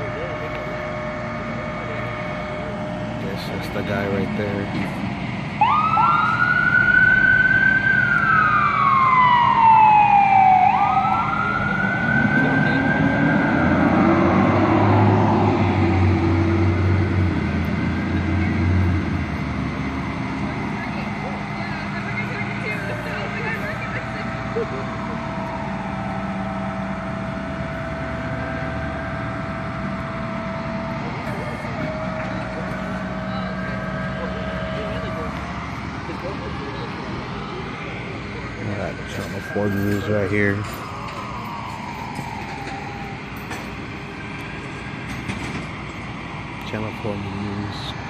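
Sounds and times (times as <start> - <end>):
vehicle engine running: 0.0 - 6.6, 11.0 - 48.0
constant high whine: 0.0 - 48.0
emergency siren wailing: 0.0 - 48.0.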